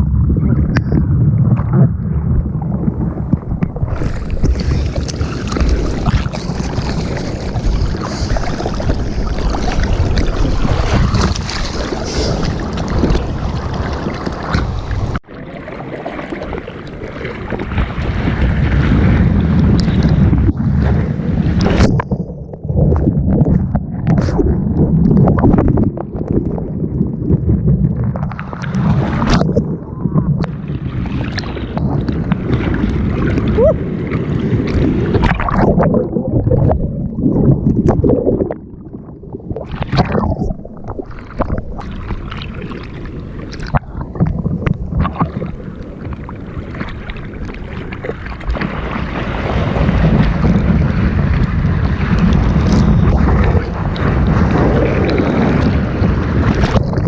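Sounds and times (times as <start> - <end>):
wind buffeting microphone: 0.0 - 15.2, 16.6 - 57.0
sea water sloshing and splashing: 0.0 - 57.0.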